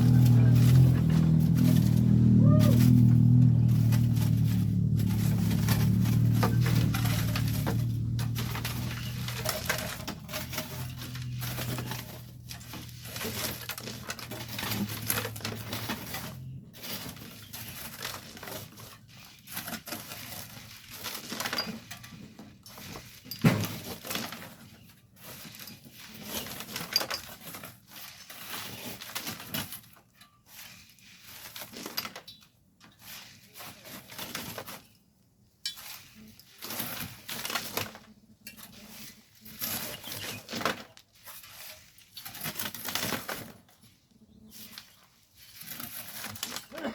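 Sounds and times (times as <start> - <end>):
hand tools scraping sand and stones: 0.0 - 46.9.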